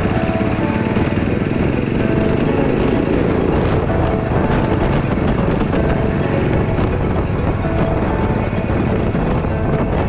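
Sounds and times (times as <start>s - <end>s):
background music: 0.0s - 10.0s
wind rushing on microphone: 0.0s - 10.0s.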